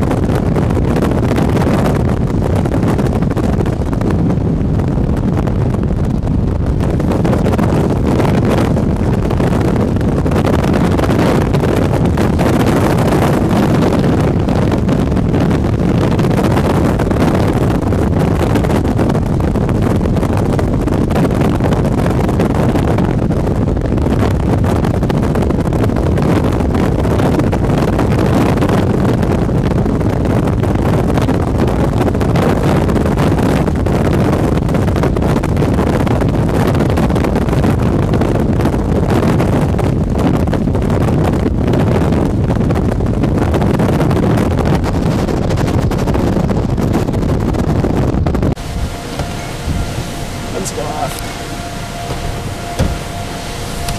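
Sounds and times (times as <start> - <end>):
wind blowing across microphone: 0.0 - 53.9.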